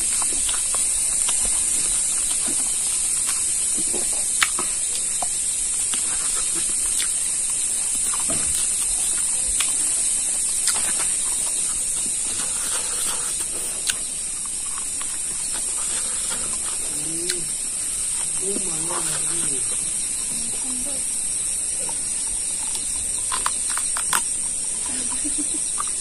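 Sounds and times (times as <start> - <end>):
wet chewing and gnawing: 0.0 - 20.6, 21.2 - 26.0
steady high-pitched hiss: 0.0 - 26.0.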